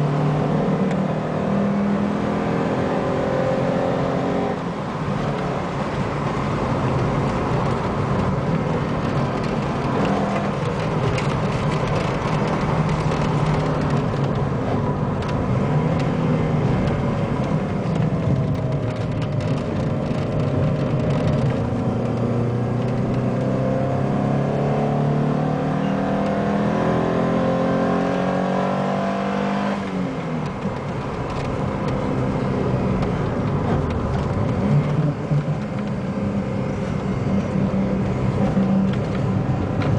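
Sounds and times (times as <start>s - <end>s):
car engine at speed: 0.0s - 39.9s
road and wind noise: 0.0s - 39.9s.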